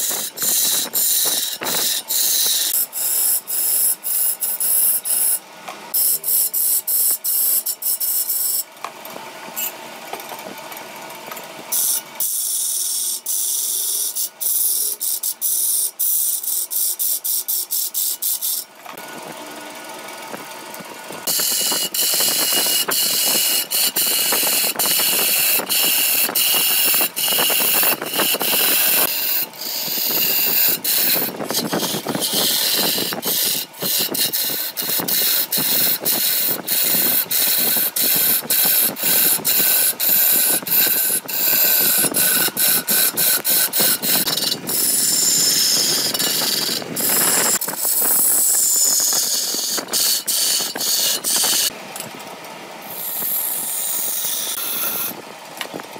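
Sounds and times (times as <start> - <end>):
lathe tool scraping wood: 0.0 - 8.9, 11.7 - 51.8, 52.9 - 55.2.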